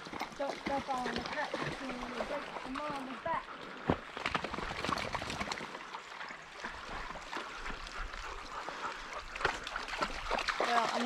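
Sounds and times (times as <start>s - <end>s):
dog splashing through water: 0.0s - 11.0s.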